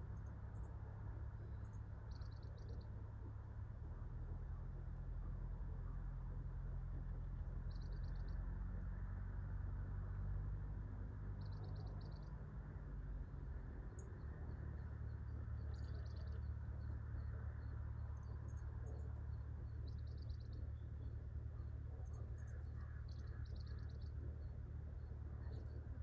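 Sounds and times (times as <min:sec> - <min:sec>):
small bird chirping trills: 0:00.0 - 0:03.6, 0:04.6 - 0:08.9, 0:11.0 - 0:13.1, 0:13.8 - 0:26.0
low background rumble: 0:00.0 - 0:26.0.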